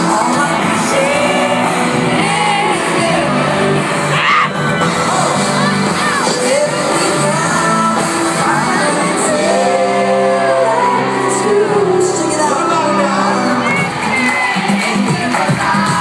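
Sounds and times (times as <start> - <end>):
live pop-rock band: 0.0 - 16.0
man singing lead vocals: 0.0 - 16.0.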